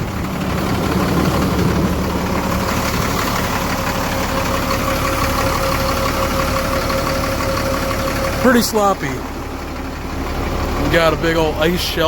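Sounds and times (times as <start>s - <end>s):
steady whine: 0.0s - 12.0s
truck engine idling: 0.0s - 12.0s.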